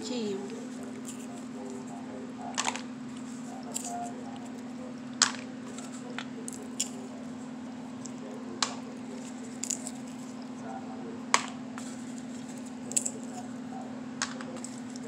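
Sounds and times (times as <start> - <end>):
steady low hum: 0.0 - 15.0
peanuts cracking: 0.4 - 10.6, 11.4 - 13.6, 14.2 - 15.0.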